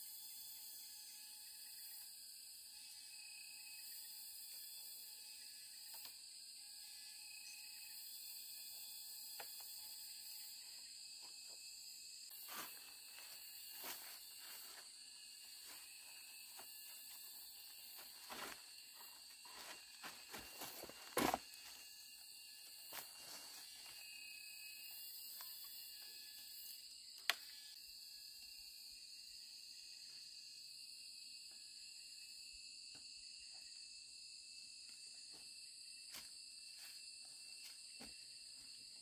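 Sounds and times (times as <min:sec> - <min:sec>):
faint insect chorus: 0:00.0 - 0:39.0.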